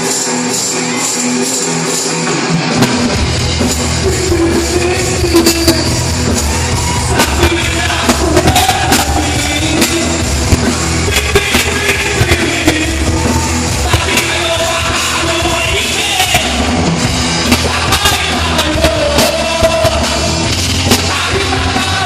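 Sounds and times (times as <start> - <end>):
rock band playing: 0.0 - 22.0
person singing: 3.7 - 22.0.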